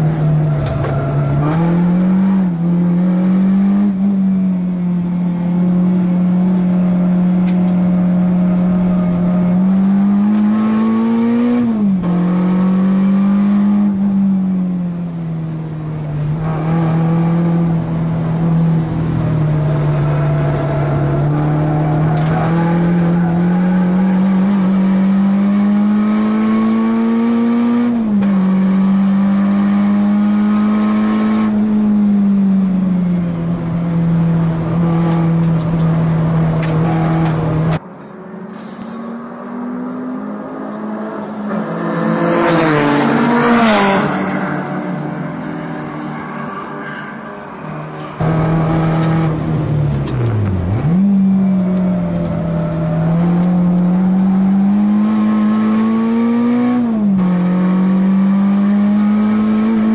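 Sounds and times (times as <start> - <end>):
car engine revving through gears: 0.0 - 47.2, 47.8 - 59.9.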